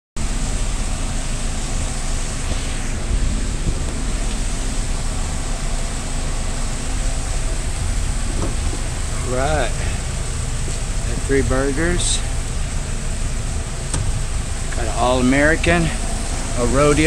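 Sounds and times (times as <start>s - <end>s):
fans rushing with low hum: 0.2s - 17.0s.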